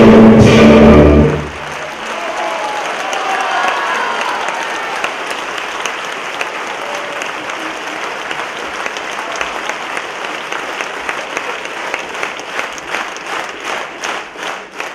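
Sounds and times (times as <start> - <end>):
audience applauding: 1.2 - 14.9.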